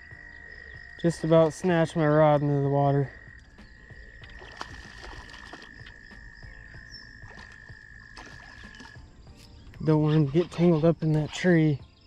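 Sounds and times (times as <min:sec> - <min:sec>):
frog and insect chorus: 0:00.0 - 0:12.0.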